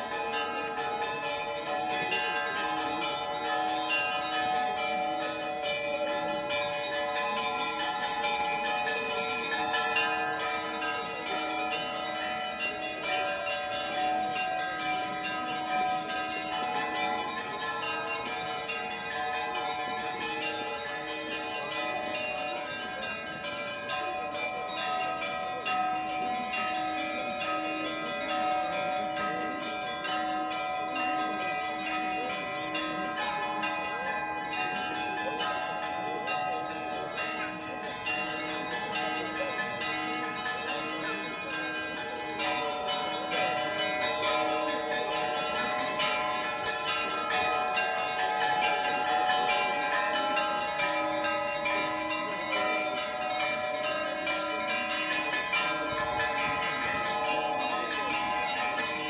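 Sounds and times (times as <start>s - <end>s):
church bells ringing: 0.0s - 59.0s
low bell struck in steady beat: 0.0s - 59.0s.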